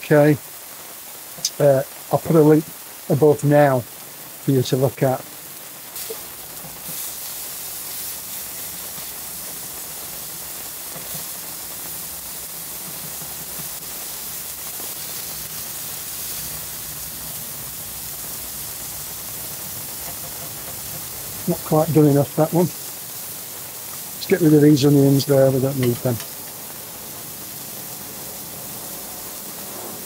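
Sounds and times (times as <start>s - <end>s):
food sizzling on hot plate: 0.0s - 30.0s.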